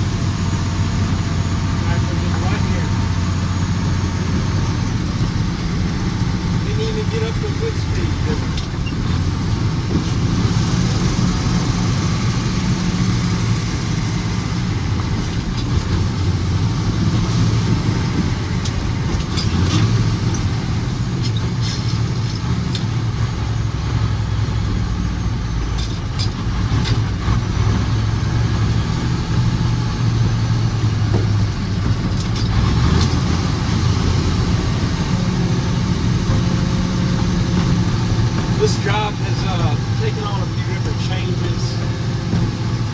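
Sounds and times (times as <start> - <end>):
road noise: 0.0 - 42.9
truck diesel engine droning: 0.0 - 42.9.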